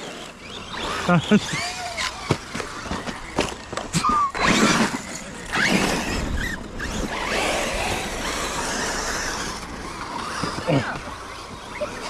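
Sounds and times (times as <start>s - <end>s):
electric motor whines: 0.0s - 12.0s
tyres scrabbling over ground: 0.0s - 12.0s.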